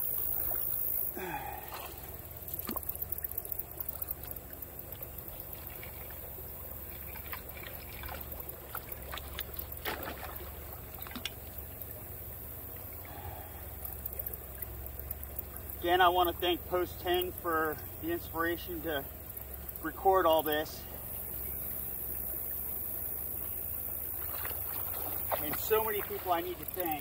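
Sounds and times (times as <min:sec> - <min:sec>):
water splashing and trickling: 0:00.0 - 0:27.0.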